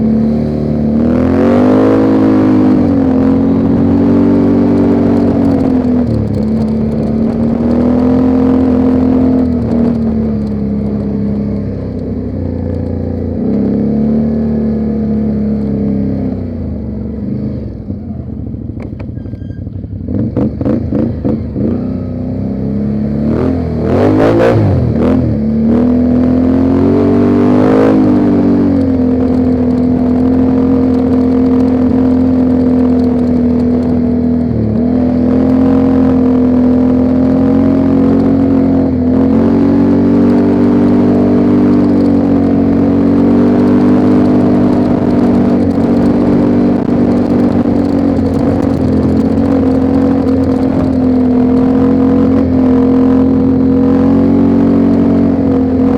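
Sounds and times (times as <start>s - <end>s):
atv engine accelerating: 0.0s - 55.9s.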